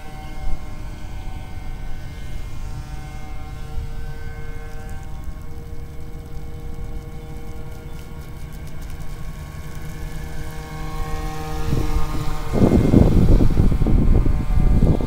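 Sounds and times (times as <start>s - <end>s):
rc boat motor whine: 0.0s - 15.0s.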